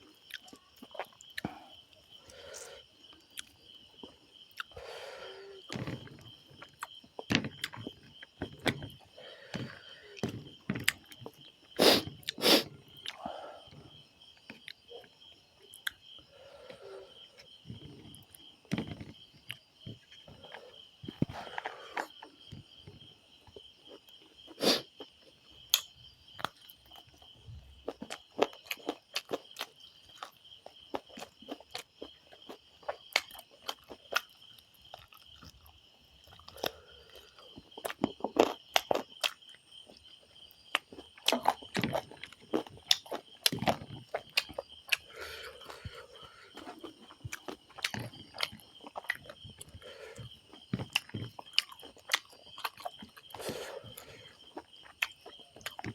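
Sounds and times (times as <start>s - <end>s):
insects chirring: 0.0s - 55.9s
person chewing and crunching food: 0.0s - 55.9s.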